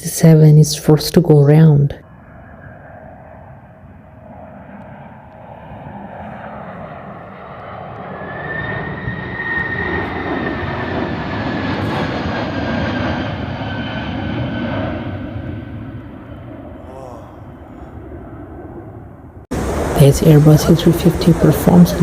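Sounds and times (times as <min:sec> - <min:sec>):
jet engines roaring: 0:01.3 - 0:16.8, 0:17.4 - 0:22.0
high engine whine: 0:01.5 - 0:22.0.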